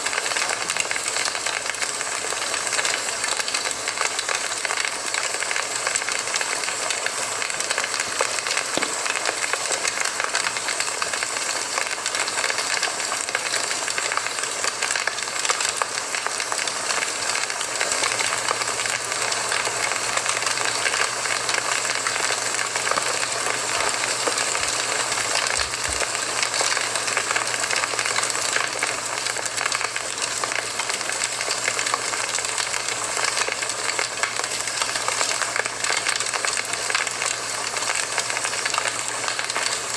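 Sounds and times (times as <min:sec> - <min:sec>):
campfire flames hissing: 0:00.0 - 0:39.9
burning wood crackling and popping: 0:00.2 - 0:18.2, 0:18.8 - 0:39.8.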